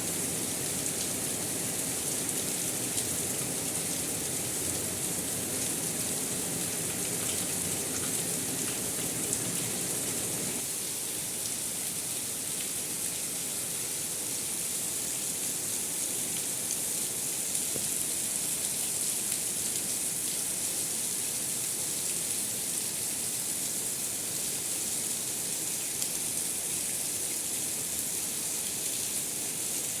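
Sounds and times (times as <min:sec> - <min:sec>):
steady rain hissing: 0:00.0 - 0:30.0.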